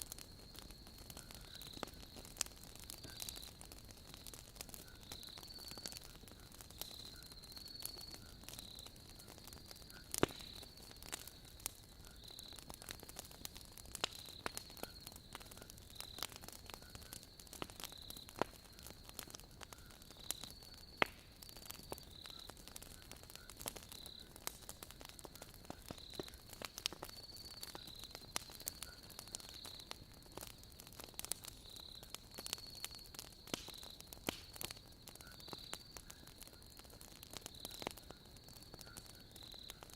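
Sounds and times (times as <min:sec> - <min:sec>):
crickets chirring: 0:00.0 - 0:39.9
wood fire crackling and popping: 0:00.0 - 0:39.9.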